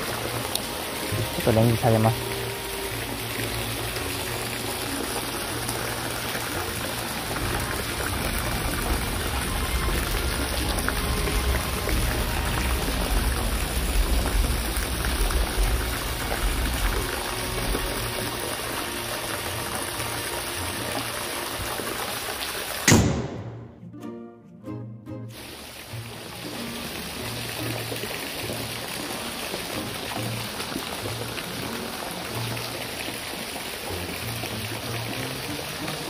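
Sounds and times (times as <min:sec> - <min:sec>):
rain: 0:00.0 - 0:22.9, 0:25.3 - 0:36.0
rushing water: 0:00.0 - 0:23.6, 0:25.2 - 0:36.0.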